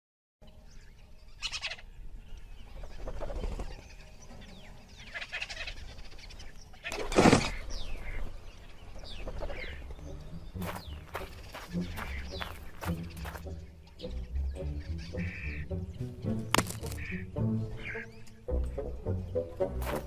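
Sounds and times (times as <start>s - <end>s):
birds chirping: 0.4s - 20.0s.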